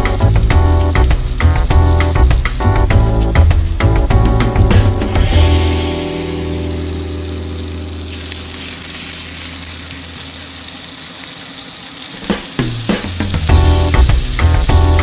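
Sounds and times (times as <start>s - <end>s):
beef sizzling in hot oil: 0.0s - 15.0s.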